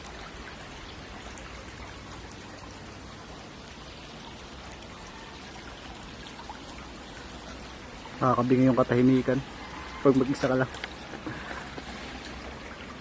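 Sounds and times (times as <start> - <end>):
stream trickling over stones: 0.0 - 13.0.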